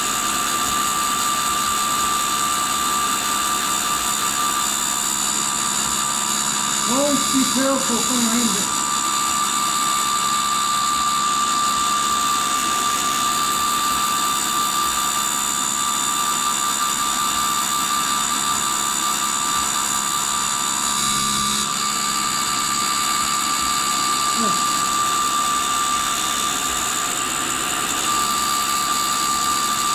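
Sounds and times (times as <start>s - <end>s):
grinder cutting steel: 0.0s - 29.9s.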